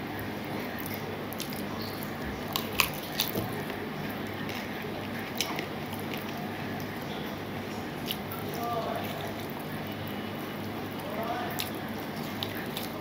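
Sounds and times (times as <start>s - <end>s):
fingers squishing wet rice: 0.1s - 13.0s
chewing: 0.6s - 13.0s.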